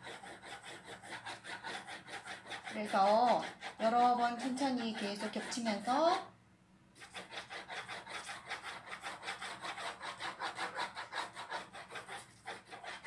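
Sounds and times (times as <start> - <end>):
pencil shading on paper: 0.0 - 6.3, 7.0 - 13.0.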